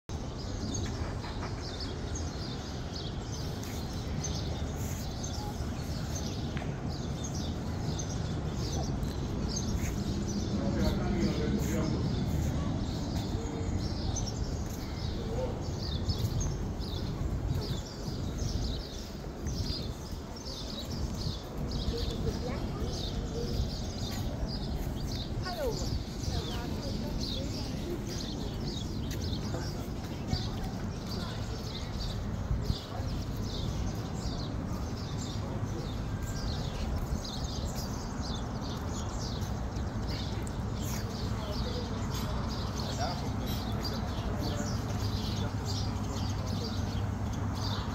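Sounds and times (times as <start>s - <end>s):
birds chirping: 0.1s - 47.9s.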